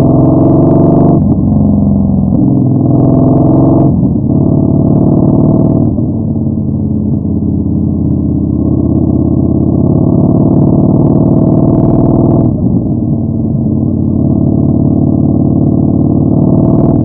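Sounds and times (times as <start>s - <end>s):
motorcycle exhaust throbbing: 0.0s - 17.0s.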